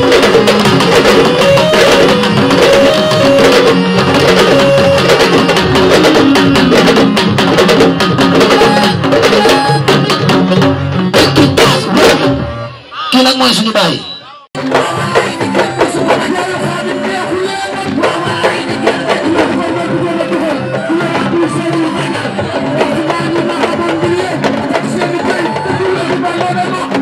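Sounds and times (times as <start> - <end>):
drum ensemble fast rhythm: 0.0 - 27.0
pitched notes beneath drums: 0.0 - 27.0.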